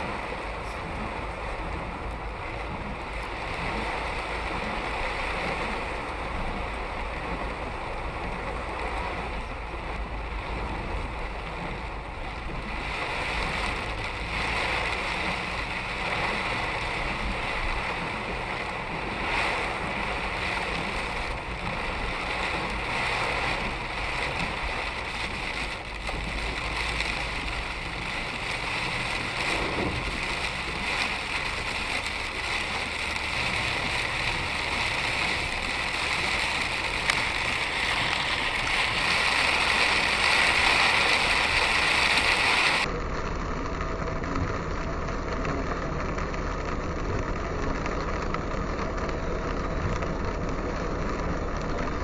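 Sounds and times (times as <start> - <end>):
car engine humming: 0.0 - 52.0
rain: 0.0 - 52.0
tyres hissing on wet road: 0.0 - 52.0.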